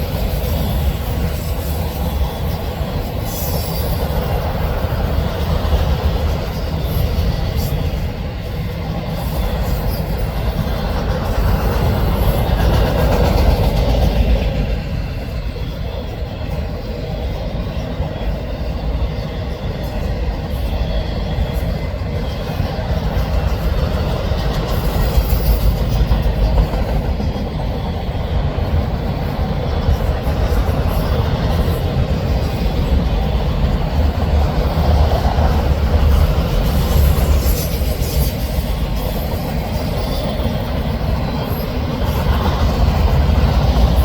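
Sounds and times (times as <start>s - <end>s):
freight train rolling past: 0.0s - 44.0s.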